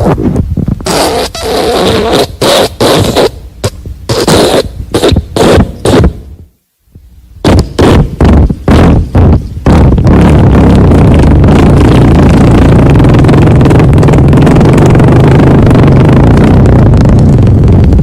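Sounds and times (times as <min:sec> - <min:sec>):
long loud fart: 0:00.0 - 0:06.3, 0:07.4 - 0:18.0.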